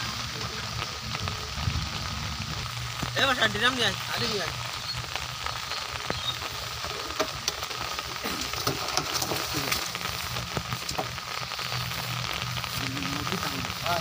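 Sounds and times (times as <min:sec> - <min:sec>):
raindrop ticks: 0:00.0 - 0:14.0
steady rain on water and leaves: 0:00.0 - 0:14.0.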